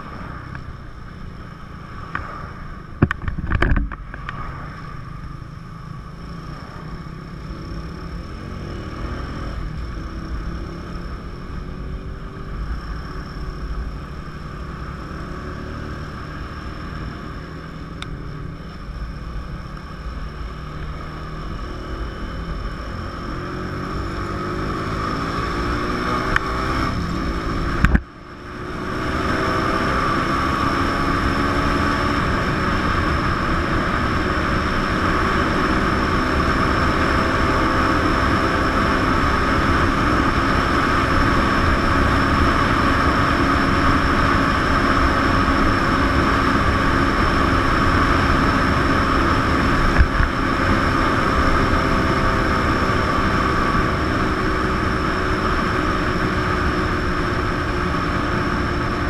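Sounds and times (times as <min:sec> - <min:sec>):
motorcycle engine accelerating: 0:00.0 - 0:59.0
wind rushing over microphone: 0:00.0 - 0:59.0.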